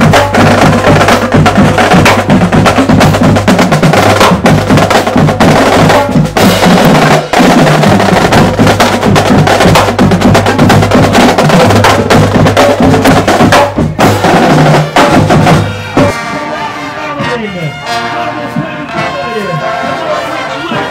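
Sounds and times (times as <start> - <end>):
drumline street cadence: 0.0 - 20.9.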